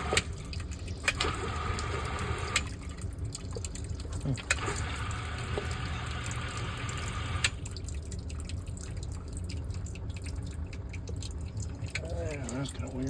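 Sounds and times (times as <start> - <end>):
sump pump humming: 0.0 - 13.0
water dripping: 0.0 - 13.0.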